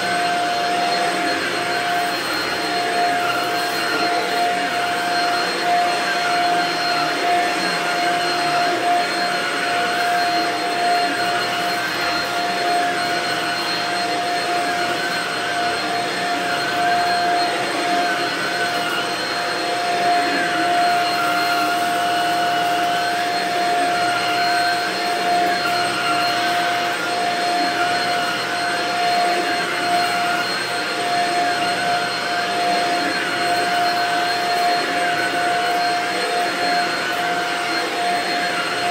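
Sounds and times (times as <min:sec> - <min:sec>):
stick vacuum whining: 0:00.0 - 0:38.9
vacuum head pushed over rug: 0:00.0 - 0:38.9.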